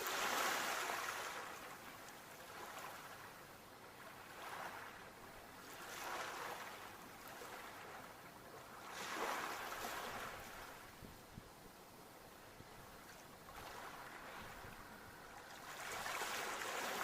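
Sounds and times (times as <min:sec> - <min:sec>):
ocean waves washing onto shore: 0:00.0 - 0:11.1, 0:11.9 - 0:17.0.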